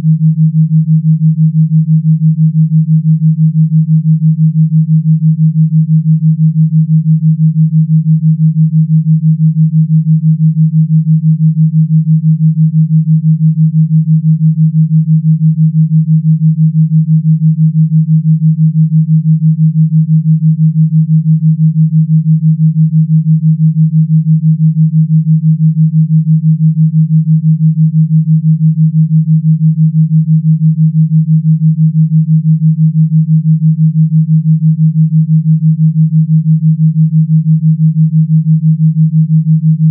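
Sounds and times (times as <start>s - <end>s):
low pulsing pure tone: 0.0s - 39.9s.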